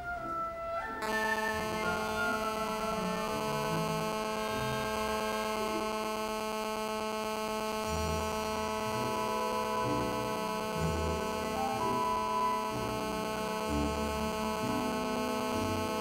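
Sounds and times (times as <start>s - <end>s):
faint orchestral music: 0.0s - 6.2s, 7.8s - 16.0s
steady electrical buzz: 1.0s - 16.0s.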